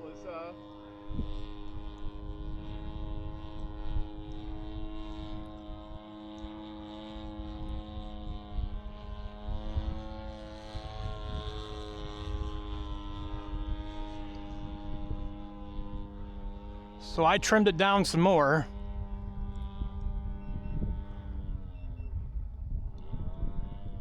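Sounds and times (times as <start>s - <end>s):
model plane engine droning: 0.0s - 24.0s
wind rumbling on microphone: 0.8s - 18.0s, 18.7s - 24.0s.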